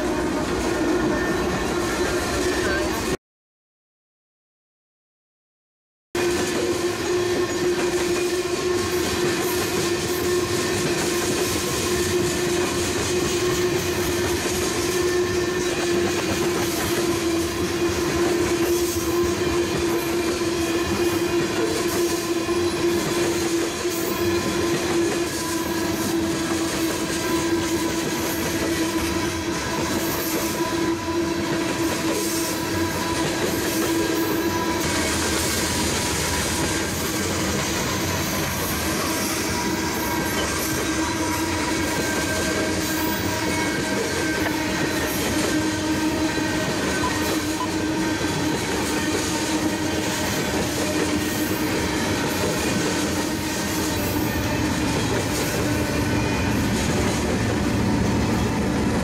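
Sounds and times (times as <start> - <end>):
train wheels rumbling and clicking: 6.2 - 59.0.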